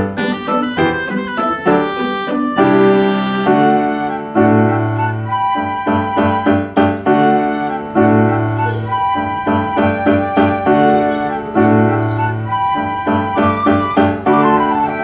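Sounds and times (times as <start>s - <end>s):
calm piano piece: 0.0s - 15.0s.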